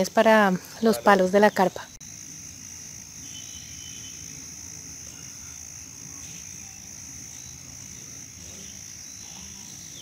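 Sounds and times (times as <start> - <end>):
insects calling: 0.0 - 10.0
faint chirps: 0.5 - 10.0.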